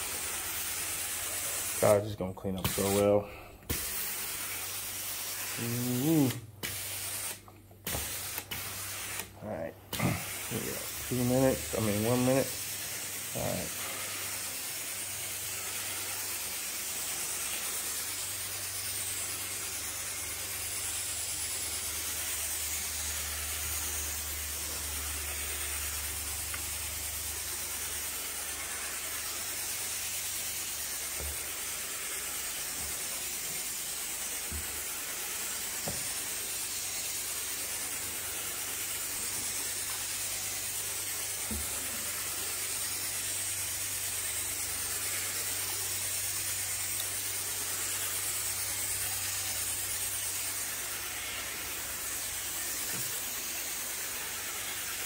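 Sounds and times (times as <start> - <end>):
extraction wand spraying and vacuuming: 0.0 - 55.0.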